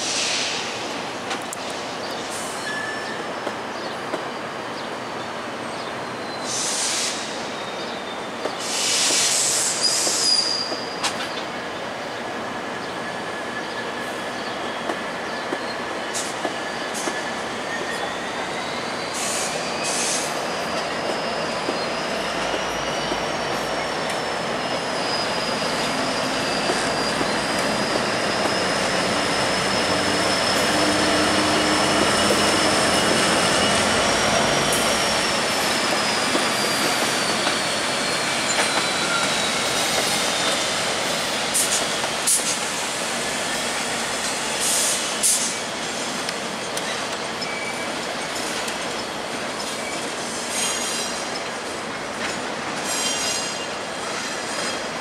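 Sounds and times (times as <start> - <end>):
train wheels rumbling on rail: 0.0 - 55.0
train wheels squealing: 1.8 - 55.0.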